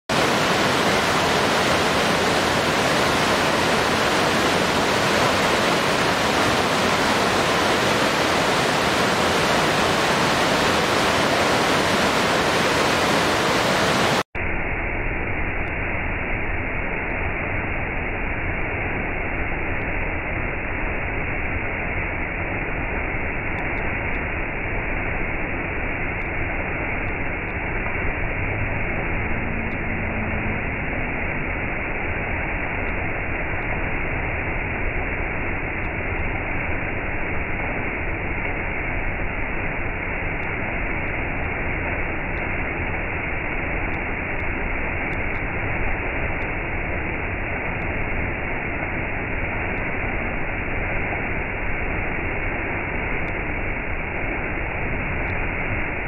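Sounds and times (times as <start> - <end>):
large waterfall rushing: 0.1 - 14.3, 22.5 - 56.0.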